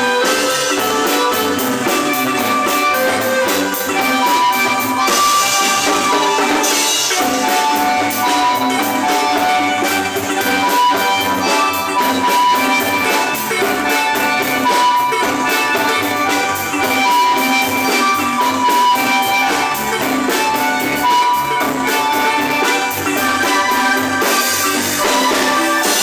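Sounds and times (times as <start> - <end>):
bass line: 0.0 - 26.0
drum kit cymbals: 0.0 - 26.0
marimba band playing: 0.0 - 26.0.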